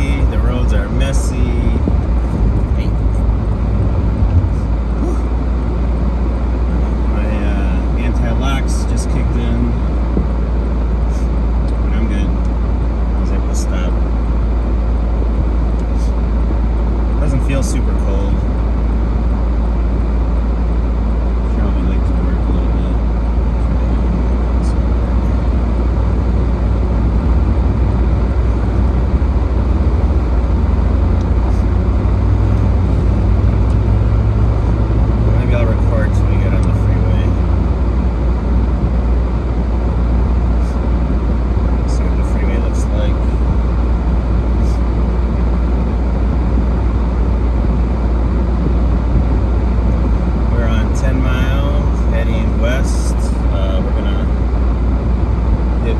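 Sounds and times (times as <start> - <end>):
car driving rumble: 0.0 - 55.9
road and tyre noise: 0.0 - 55.9.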